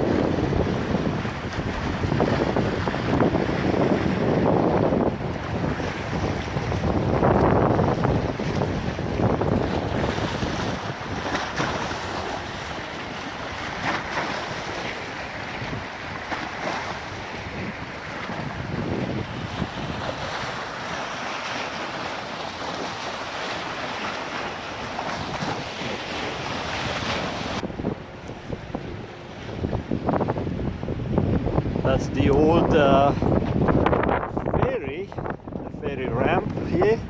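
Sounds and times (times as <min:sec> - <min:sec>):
waves washing on shore: 0:00.0 - 0:37.0
wind buffeting microphone: 0:00.0 - 0:37.0.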